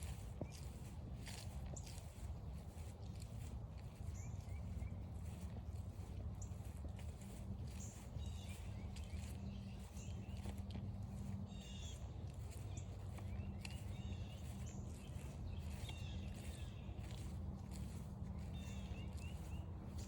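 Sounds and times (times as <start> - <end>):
footsteps on forest trail: 0.0 - 20.0
songbirds chirping: 0.0 - 20.0
steady low rumble: 0.0 - 20.0.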